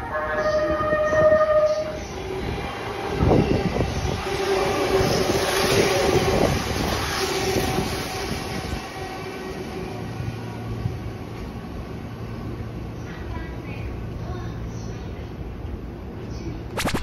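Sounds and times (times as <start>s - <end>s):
steady hum of passing train: 0.0s - 16.8s.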